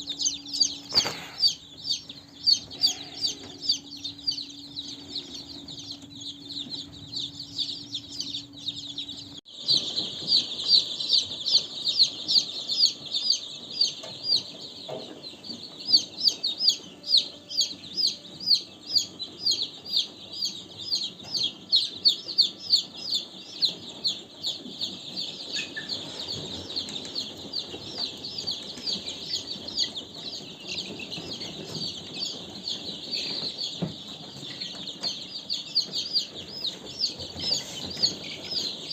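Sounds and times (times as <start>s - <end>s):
chicks peeping: 0.0s - 38.9s
steady low hum: 0.0s - 38.9s.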